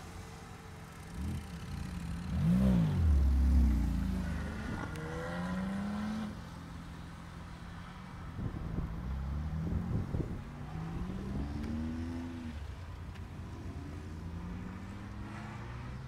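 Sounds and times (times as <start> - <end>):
car engines pulling away: 0.0 - 16.0.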